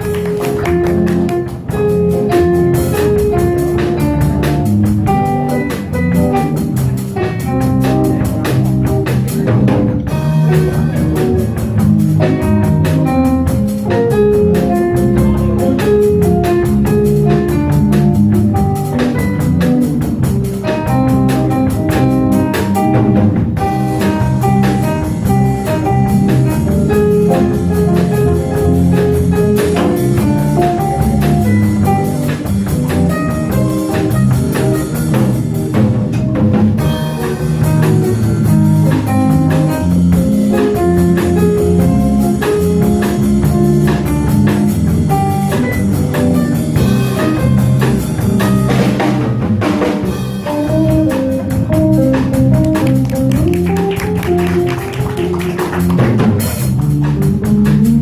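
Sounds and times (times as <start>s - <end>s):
jazz combo playing: 0.0s - 58.0s.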